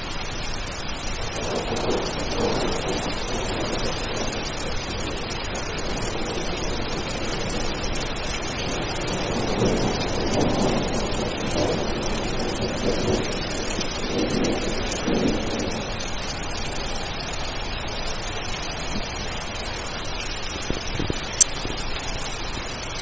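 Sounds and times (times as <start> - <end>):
rain falling: 0.0 - 23.0
low rumble of thunder: 1.1 - 23.0.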